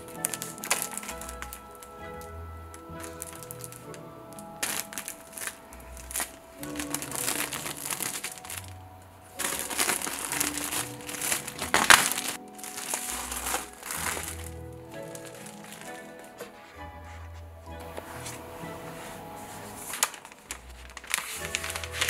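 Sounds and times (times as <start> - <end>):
plastic shrink-wrap crinkling: 0.0 - 16.7, 19.2 - 22.0
background music: 0.0 - 22.0.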